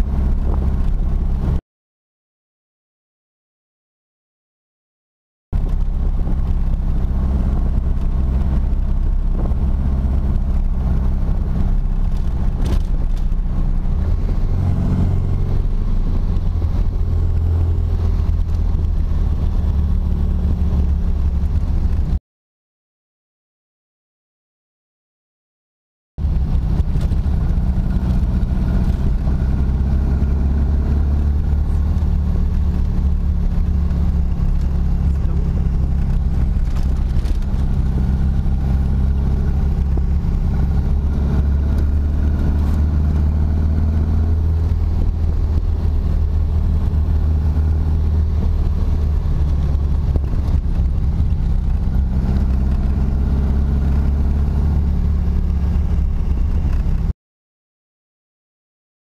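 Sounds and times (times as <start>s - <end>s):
car engine droning: 0.0s - 1.6s, 5.6s - 22.2s, 26.2s - 57.1s.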